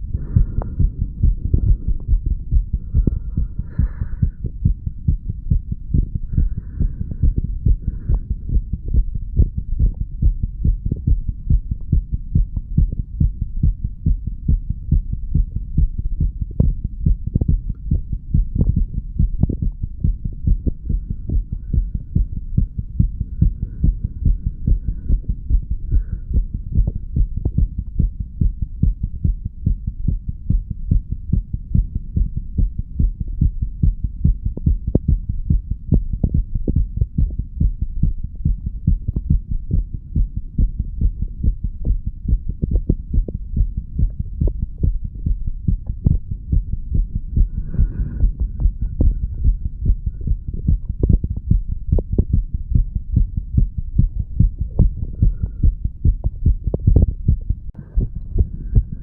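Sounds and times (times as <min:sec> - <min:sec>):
heartbeat low thuds: 0:00.0 - 0:59.0.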